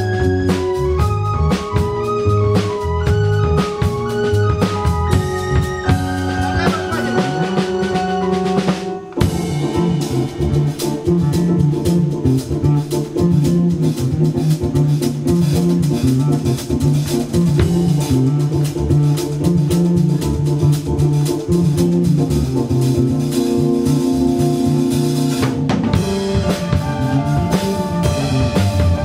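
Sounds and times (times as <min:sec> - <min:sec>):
drum kit keeping time: 0:00.0 - 0:29.0
electric bass guitar: 0:00.0 - 0:29.0
keyboard: 0:00.0 - 0:29.0.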